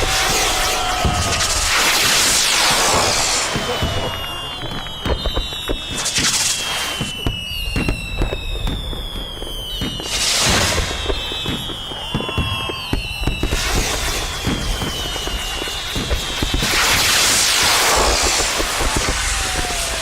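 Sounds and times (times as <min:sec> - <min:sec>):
descending firework whistles: 0:00.0 - 0:20.0
fireworks bangs and crackling: 0:00.0 - 0:20.0
hissing crackle bursts: 0:00.0 - 0:20.0.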